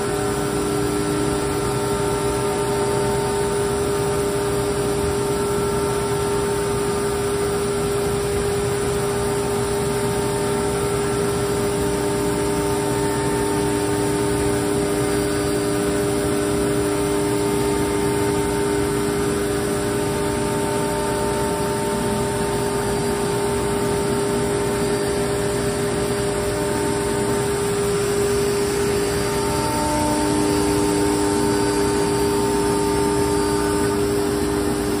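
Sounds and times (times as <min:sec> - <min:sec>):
industrial machine humming: 0:00.0 - 0:35.0
machine whining tones: 0:00.0 - 0:35.0.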